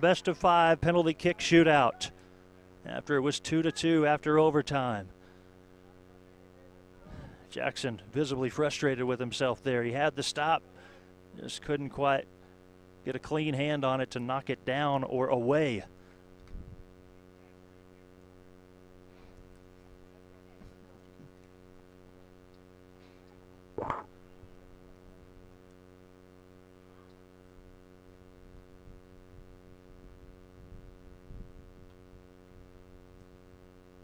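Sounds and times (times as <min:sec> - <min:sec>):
steady electrical hum: 0:00.0 - 0:34.0.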